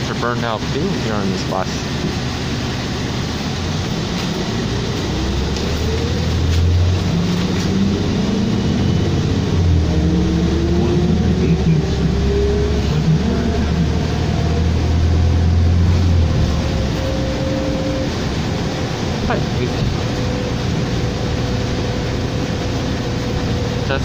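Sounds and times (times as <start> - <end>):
bus engine humming: 0.0 - 24.0
whine rising in pitch: 2.3 - 24.0.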